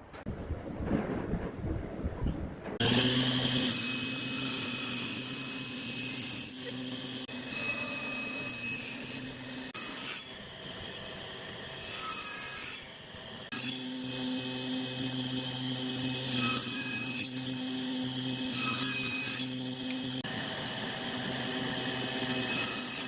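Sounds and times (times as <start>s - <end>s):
saw blade cutting wood: 2.8s - 23.0s
table saw motor hum: 2.8s - 23.0s.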